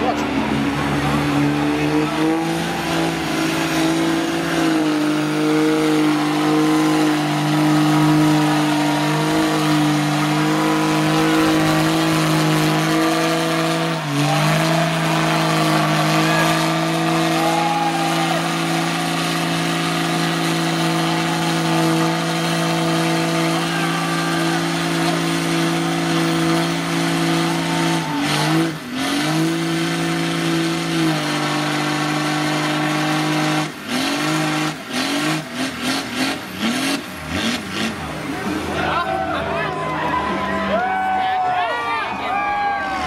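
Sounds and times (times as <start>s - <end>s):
pickup truck engine revving: 0.0s - 40.8s.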